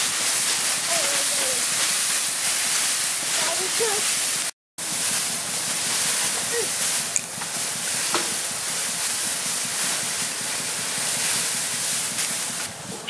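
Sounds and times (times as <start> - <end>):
dry straw rustling: 0.0 - 13.0.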